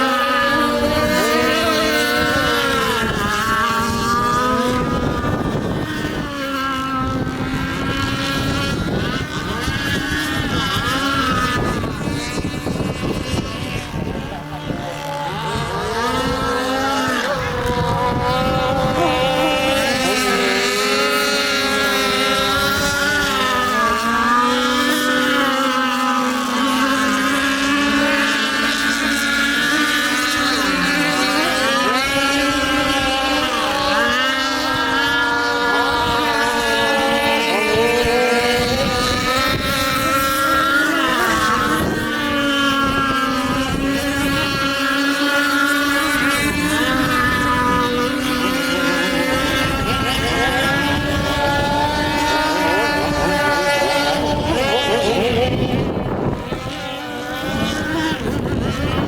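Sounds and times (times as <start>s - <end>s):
motorboat engine running hard: 0.0s - 59.0s.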